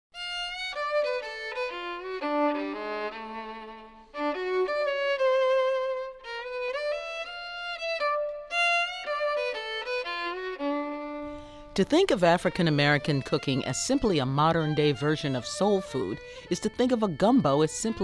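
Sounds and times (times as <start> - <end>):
violin melody: 0.2 - 18.0.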